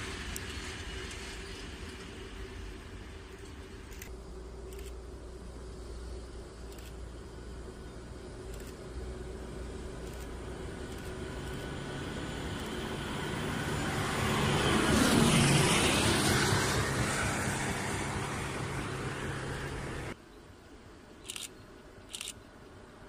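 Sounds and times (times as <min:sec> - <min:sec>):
rail vehicle passing: 0:00.0 - 0:23.0.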